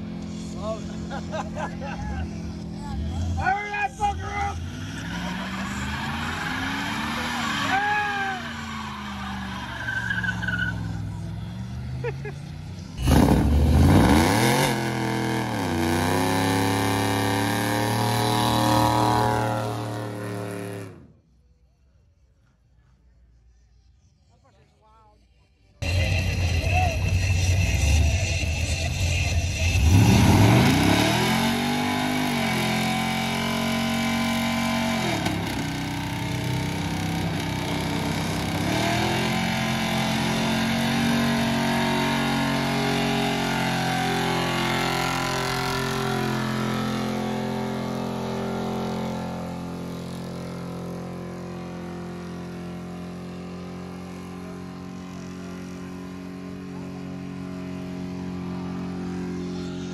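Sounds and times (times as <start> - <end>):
truck engine revving: 4.0 - 21.2, 25.8 - 59.9.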